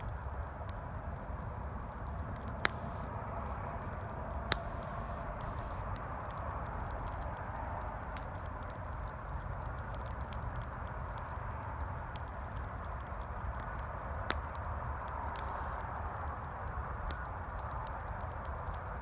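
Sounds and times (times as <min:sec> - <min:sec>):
campfire crackling and popping: 0:00.0 - 0:19.0
distant highway traffic: 0:00.0 - 0:19.0.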